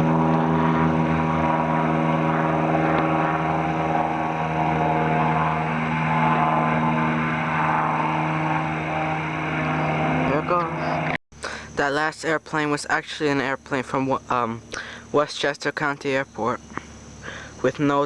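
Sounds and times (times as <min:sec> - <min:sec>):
propeller airplane droning: 0:00.0 - 0:18.0.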